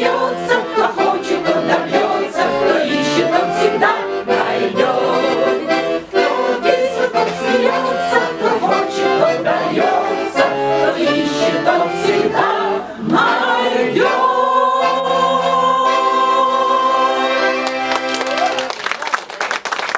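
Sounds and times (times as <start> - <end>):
choir singing: 0.0 - 17.9
accordion: 0.0 - 18.8.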